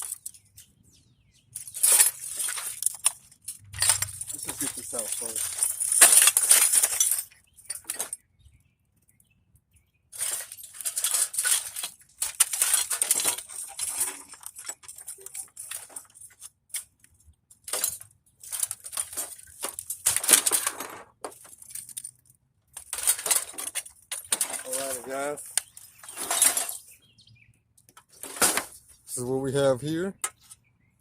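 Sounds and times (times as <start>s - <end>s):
metal scrap parts clinking: 0.0s - 0.7s, 1.6s - 8.2s, 10.2s - 27.0s, 28.0s - 28.8s.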